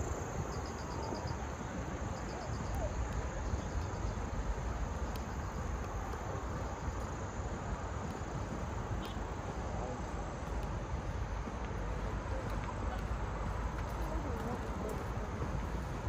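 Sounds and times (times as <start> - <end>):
crickets chirping: 0.0 - 16.0
outdoor background noise: 0.0 - 16.0.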